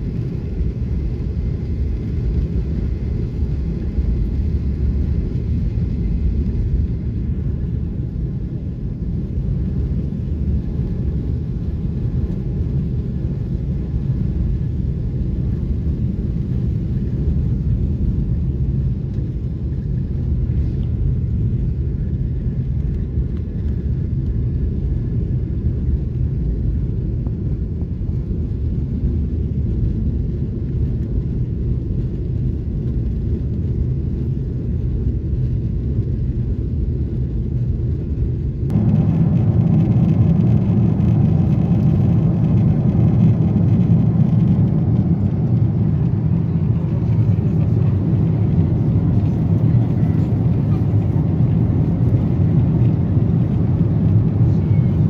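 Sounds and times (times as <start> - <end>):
jet engines inside cabin: 0.0 - 55.0.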